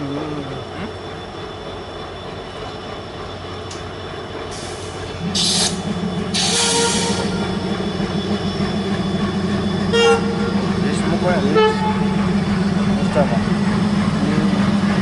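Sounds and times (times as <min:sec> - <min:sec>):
train coaches rumbling on track: 0:00.0 - 0:15.0.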